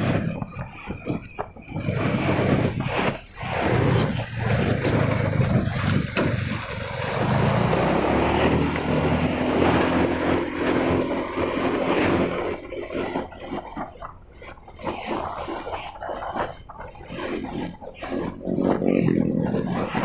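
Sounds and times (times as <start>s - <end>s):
vehicle engine running: 0.0s - 20.0s
wind and road noise: 0.0s - 20.0s.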